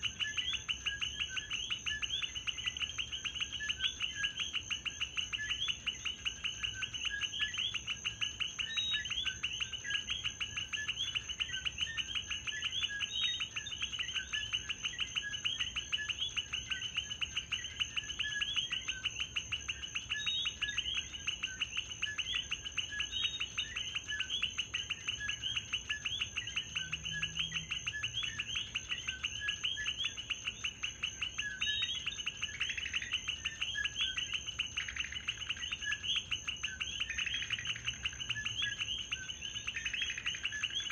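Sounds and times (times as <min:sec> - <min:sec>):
frogs chirping: 0:00.0 - 0:40.9.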